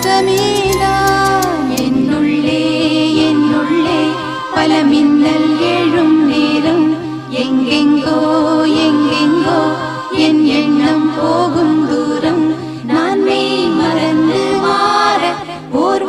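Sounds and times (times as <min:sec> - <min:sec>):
song with sung vocals: 0:00.0 - 0:16.0.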